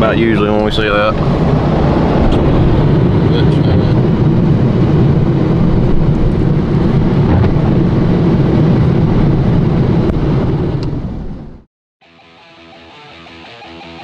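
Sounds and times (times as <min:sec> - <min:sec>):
car engine and tyre rumble: 0:00.0 - 0:11.7.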